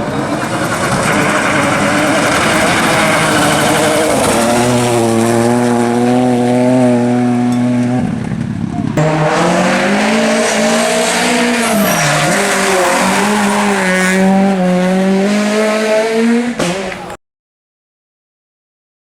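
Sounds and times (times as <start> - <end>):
rally car engine at high revs: 0.0 - 17.2
tyre and road noise: 0.0 - 17.2.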